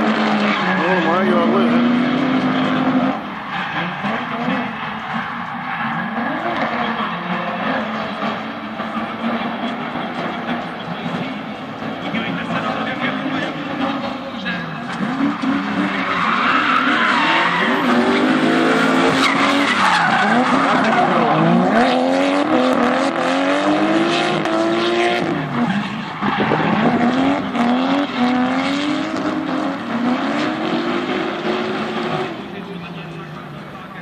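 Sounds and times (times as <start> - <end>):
car engines revving: 0.0 - 34.0
tyres skidding: 0.0 - 34.0.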